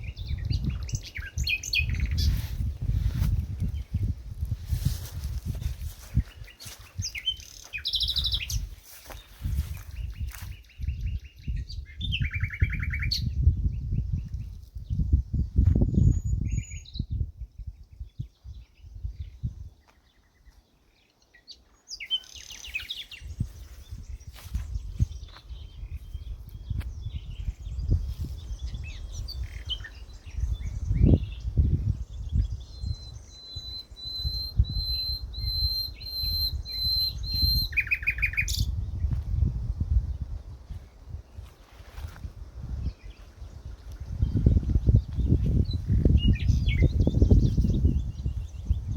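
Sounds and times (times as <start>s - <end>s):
small birds singing: 0.0s - 48.9s.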